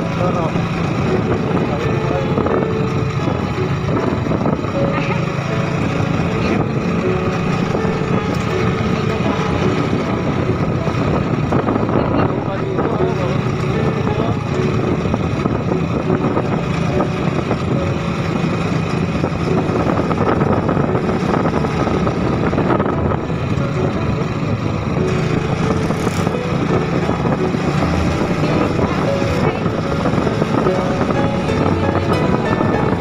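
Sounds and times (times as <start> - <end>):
motorcycle engine running: 0.0 - 33.0
wind rushing past: 0.0 - 33.0.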